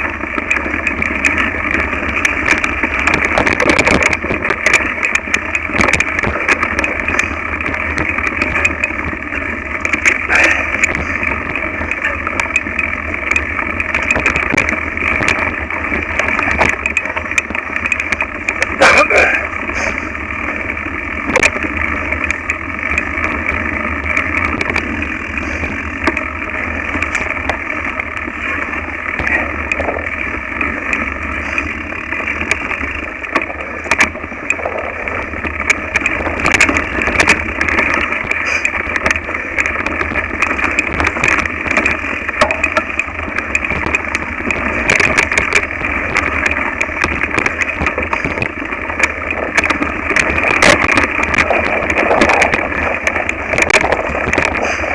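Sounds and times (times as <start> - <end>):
bike knocks and rattles: 0.0 - 54.9
bike tyre noise on dirt: 0.0 - 54.9.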